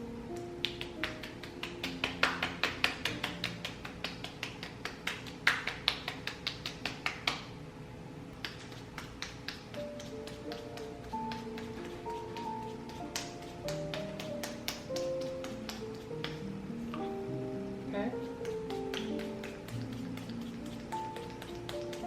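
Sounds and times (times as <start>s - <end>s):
soft background music: 0.0s - 5.8s, 8.8s - 22.0s.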